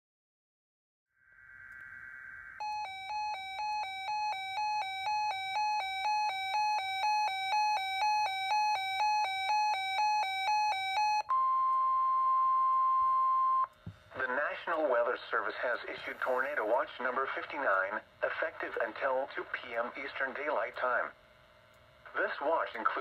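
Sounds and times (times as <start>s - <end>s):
steady alarm tone: 1.3s - 23.0s.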